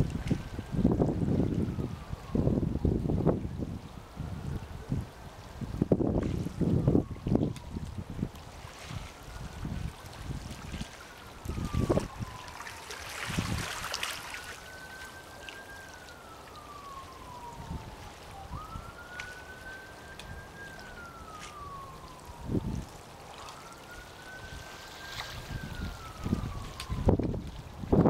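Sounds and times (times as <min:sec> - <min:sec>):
siren wailing: 0:00.0 - 0:28.0
wind buffeting microphone: 0:00.0 - 0:28.0.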